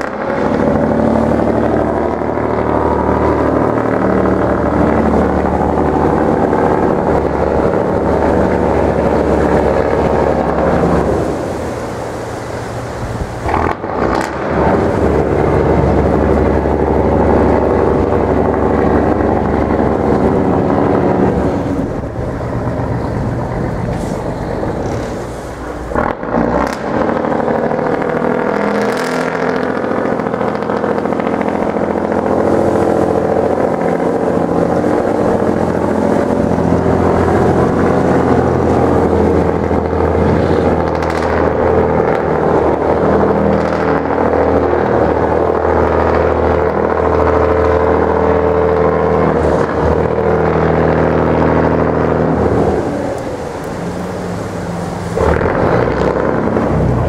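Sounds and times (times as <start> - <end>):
boat diesel engine running: 0.0 - 57.0.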